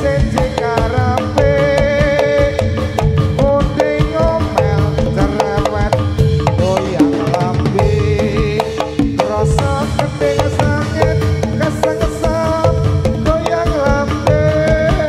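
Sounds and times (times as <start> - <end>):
drums beating brisk rhythm: 0.0 - 15.0
sliding pitched melody: 0.0 - 15.0.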